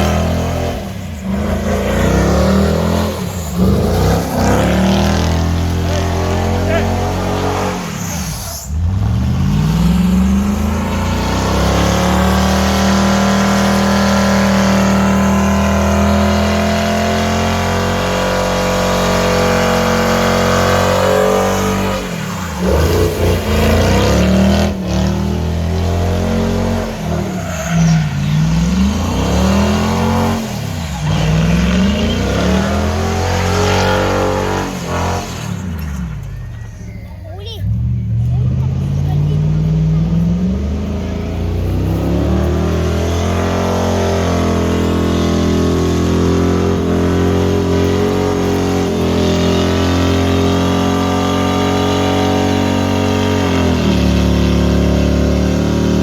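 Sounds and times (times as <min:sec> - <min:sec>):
truck engine revving hard: 0:00.0 - 0:36.8, 0:37.4 - 0:56.0.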